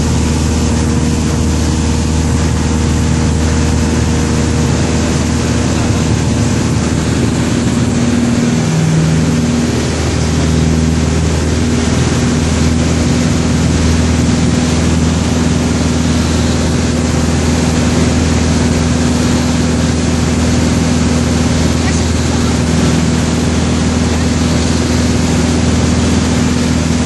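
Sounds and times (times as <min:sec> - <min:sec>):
light aircraft engine and propeller: 0:00.0 - 0:27.0.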